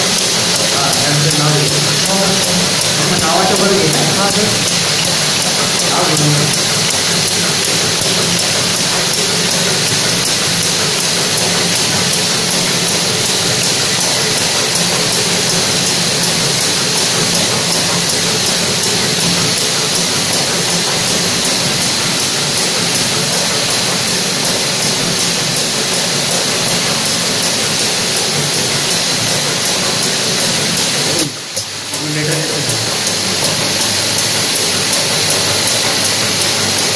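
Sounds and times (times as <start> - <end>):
packing machine whirring and hissing: 0.0 - 36.9.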